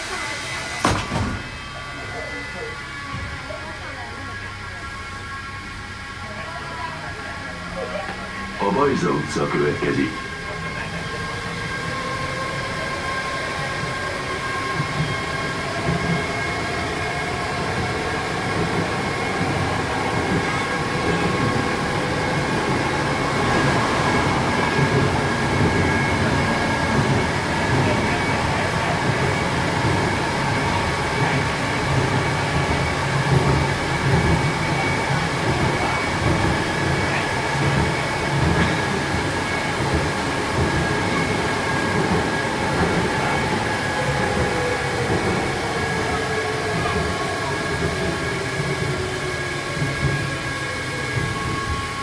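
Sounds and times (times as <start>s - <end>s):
metro motor whine: 0.0s - 52.0s
wheels rumbling on rail: 0.0s - 52.0s.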